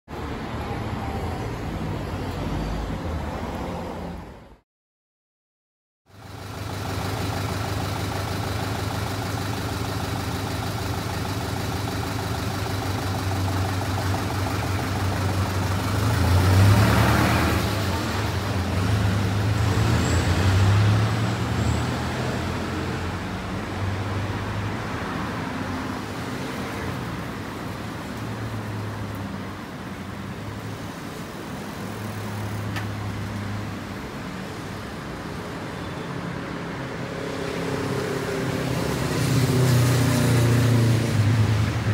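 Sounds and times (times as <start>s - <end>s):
road traffic engine hum: 0.1s - 4.6s, 6.1s - 41.9s
vehicles passing: 0.1s - 4.6s, 6.1s - 41.9s.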